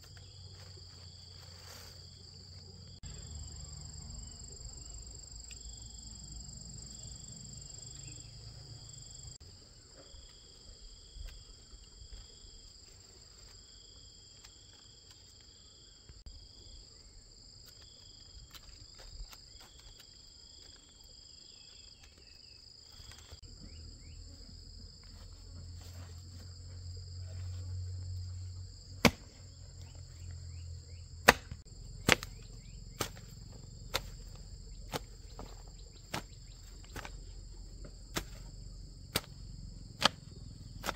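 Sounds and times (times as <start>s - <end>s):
insect chirping in pulses: 0.0s - 40.9s
insect chorus: 0.0s - 40.9s.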